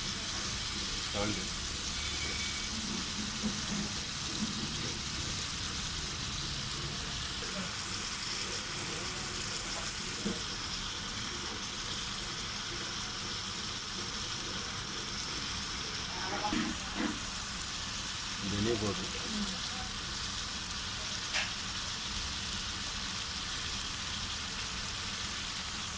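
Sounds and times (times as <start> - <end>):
curry sizzling in a pot: 0.0 - 25.9.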